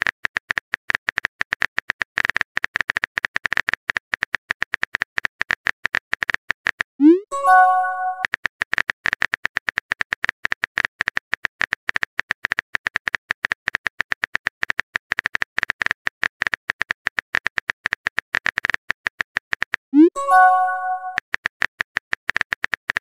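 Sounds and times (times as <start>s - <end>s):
phone keyboard typing clicks: 0.0s - 23.0s.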